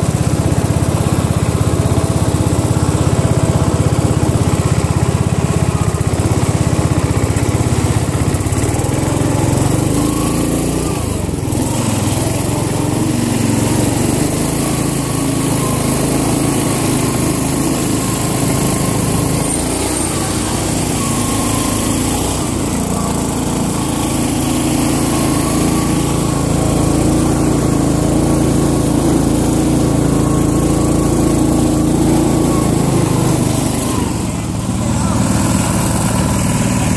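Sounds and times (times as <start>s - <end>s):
small engine running hard: 0.0s - 36.9s.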